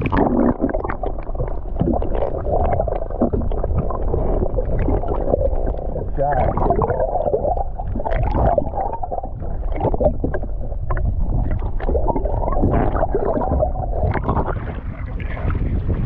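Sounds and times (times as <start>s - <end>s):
muffled underwater water rushing: 0.0s - 16.0s.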